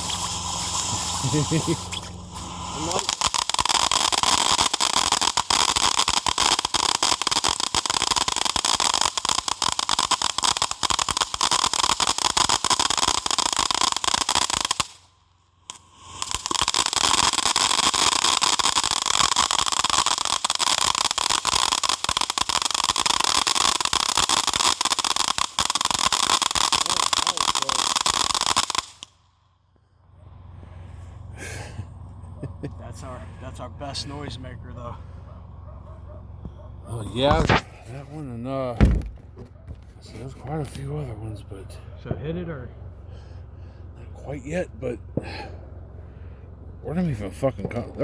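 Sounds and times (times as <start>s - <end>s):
firework crackling and popping: 0.0s - 29.3s, 31.4s - 35.3s, 36.4s - 41.8s, 43.2s - 45.6s, 46.9s - 48.0s.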